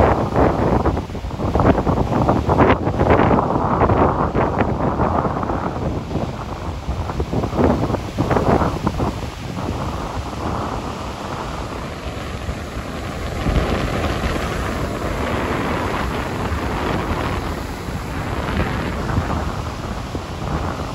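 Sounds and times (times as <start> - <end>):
surf breaking on rocks: 0.0 - 20.9
wind buffeting microphone: 0.0 - 20.9.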